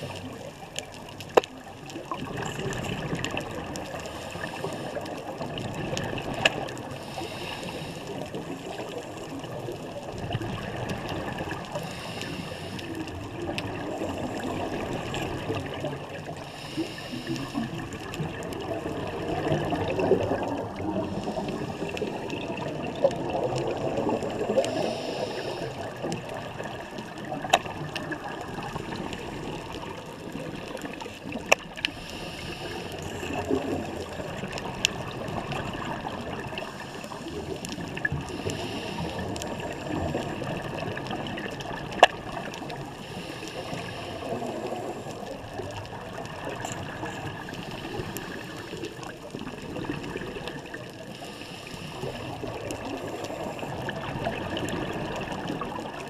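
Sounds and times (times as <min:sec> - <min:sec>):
steady watery background: 0:00.0 - 0:56.0
bubbling rush of exhaled air: 0:02.0 - 0:56.0.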